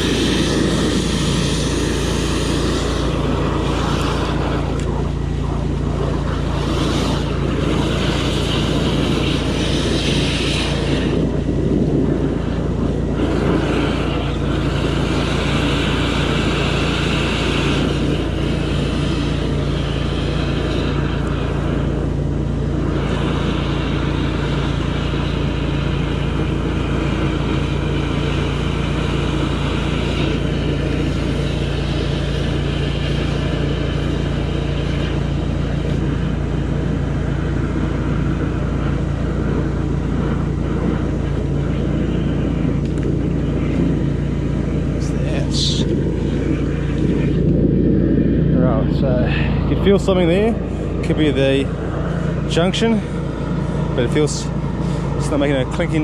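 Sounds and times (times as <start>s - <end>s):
water hiss: 0.0s - 47.4s, 48.8s - 56.0s
high-pressure pump droning: 0.0s - 56.0s.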